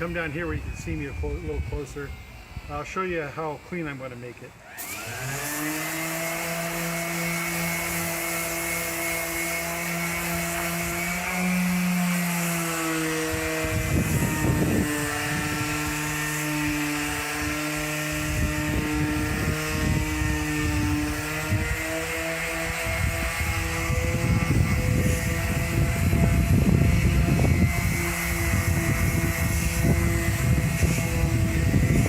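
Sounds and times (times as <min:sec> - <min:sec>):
electric sander whining: 0:00.0 - 0:32.0
sander scraping steel: 0:00.0 - 0:32.0.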